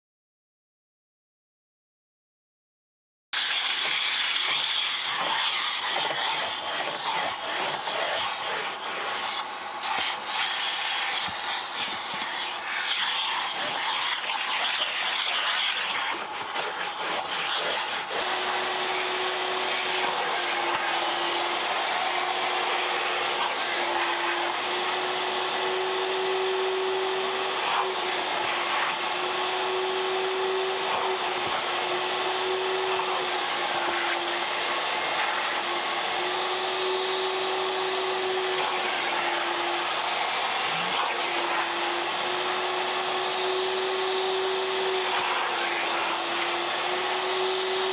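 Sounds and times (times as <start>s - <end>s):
vacuum cleaner running: 3.4s - 47.9s.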